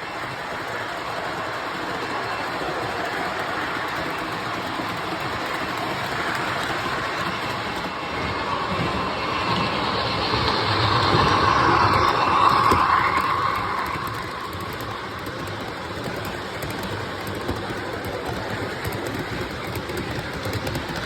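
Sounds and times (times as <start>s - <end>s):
model train rolling rumble: 0.0s - 21.0s.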